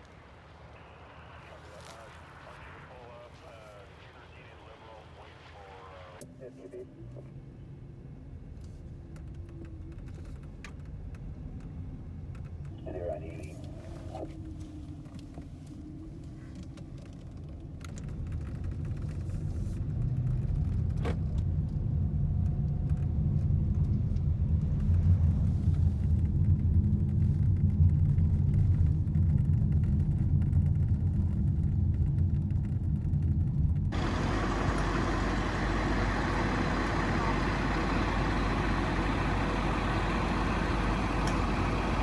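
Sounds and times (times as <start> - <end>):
motor vehicle rumbling: 6.7 - 42.0.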